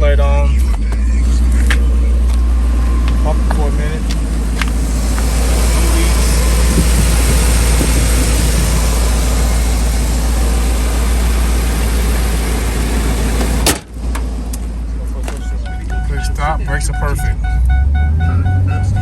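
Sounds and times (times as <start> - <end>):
pickup truck engine and road rumble: 0.0 - 19.0.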